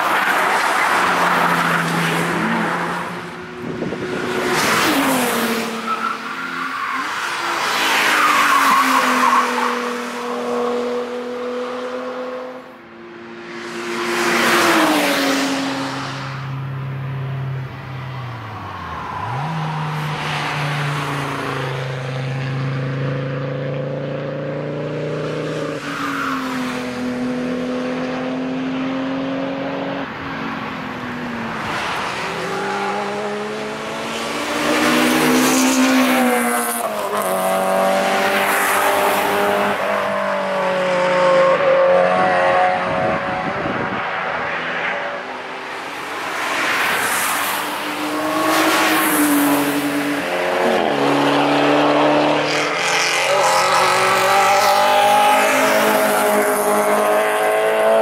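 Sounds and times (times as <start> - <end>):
cars passing at speed: 0.0 - 58.0.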